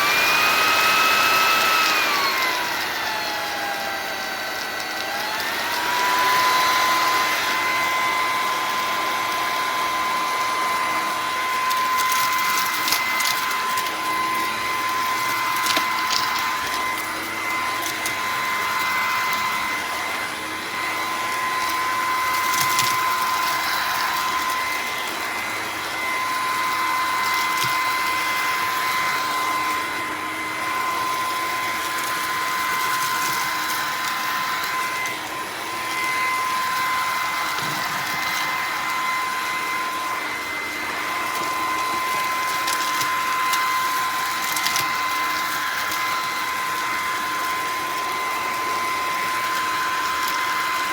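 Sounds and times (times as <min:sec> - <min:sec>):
stick vacuum running: 0:00.0 - 0:50.9.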